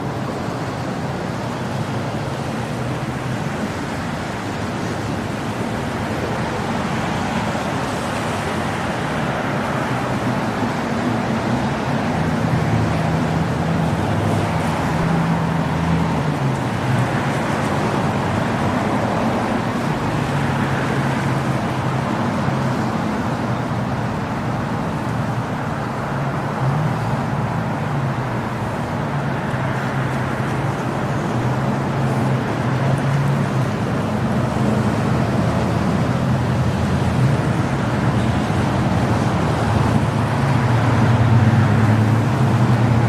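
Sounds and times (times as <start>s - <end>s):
outdoor traffic noise: 0.0s - 43.0s
vehicle engines humming: 0.0s - 43.0s.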